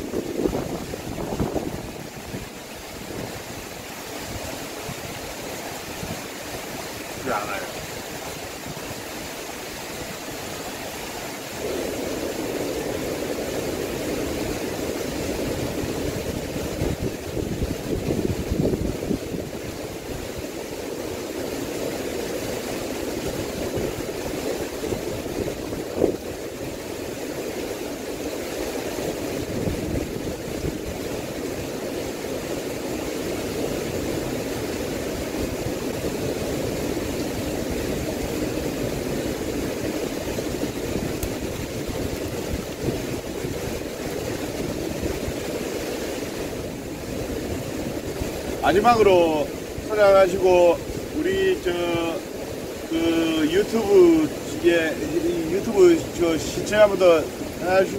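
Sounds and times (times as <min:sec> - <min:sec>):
heavy rain: 0:00.0 - 0:57.9
strong wind: 0:00.0 - 0:57.9
wind gusts rumbling on microphone: 0:00.0 - 0:57.9.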